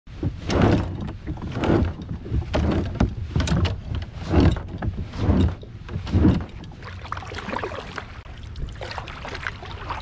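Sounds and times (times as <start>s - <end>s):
kayak paddle splashing: 0.1s - 10.0s.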